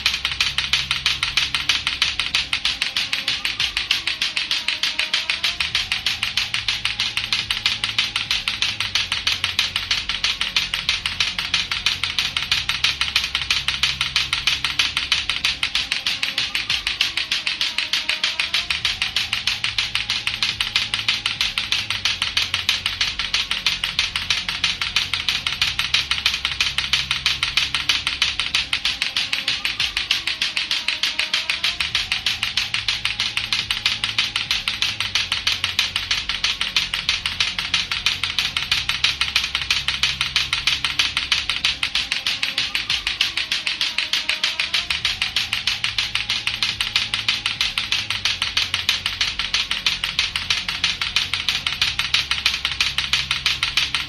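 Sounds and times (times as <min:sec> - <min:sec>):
faint music: 0:00.0 - 0:54.0
plastic clacker toy clacking: 0:00.0 - 0:54.0.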